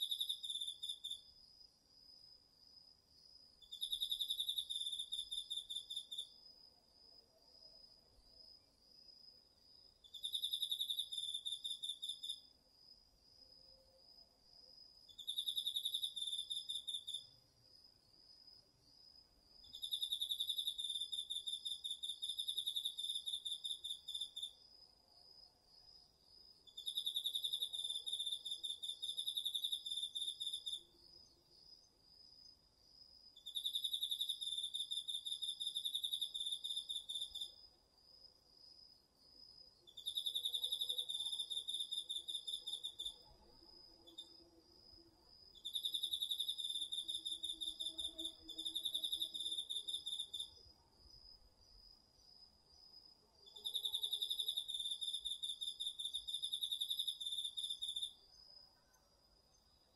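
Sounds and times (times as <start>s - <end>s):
lower cricket trill in bouts: 0.0s - 59.9s.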